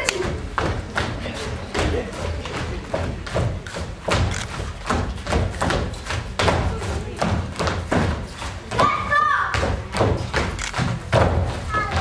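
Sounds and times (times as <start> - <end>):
feet stamping on stage floor: 0.0 - 12.0.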